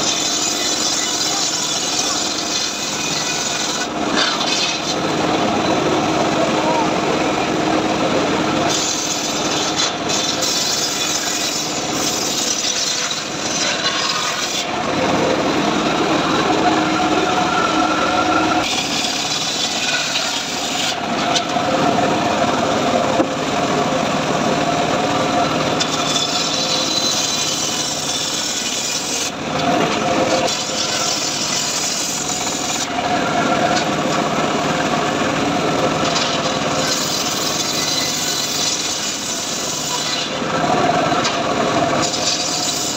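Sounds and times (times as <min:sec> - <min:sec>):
circular saw cutting log: 0:00.0 - 0:42.9.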